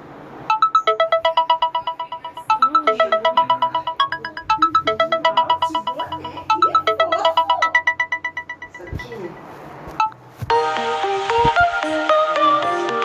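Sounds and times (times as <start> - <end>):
phone ringtone melody: 0.5 - 13.0.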